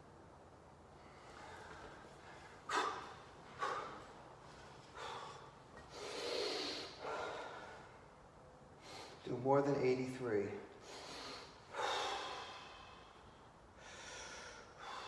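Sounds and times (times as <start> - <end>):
man breathing forcefully: 1.0 - 9.2, 10.8 - 15.0.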